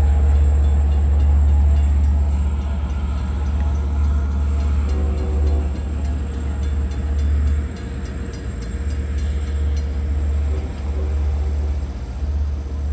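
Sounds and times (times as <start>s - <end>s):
crossing warning bell ringing: 0.0s - 11.9s
diesel locomotive running: 0.0s - 12.9s.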